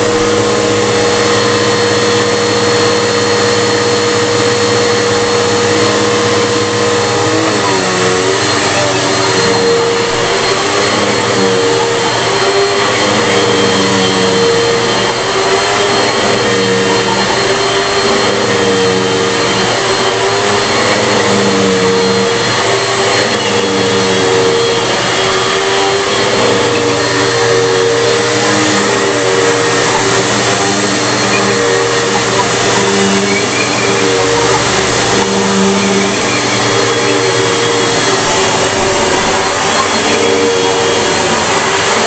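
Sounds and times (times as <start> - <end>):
upright vacuum cleaner running: 0.0 - 42.0.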